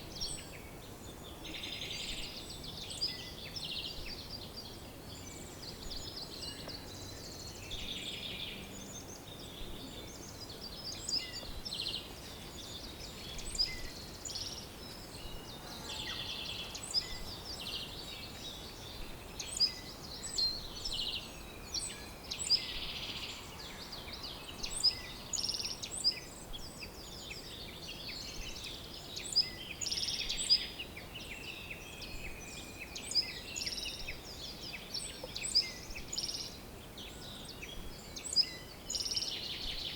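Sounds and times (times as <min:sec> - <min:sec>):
songbird chorus: 0:00.0 - 0:39.9.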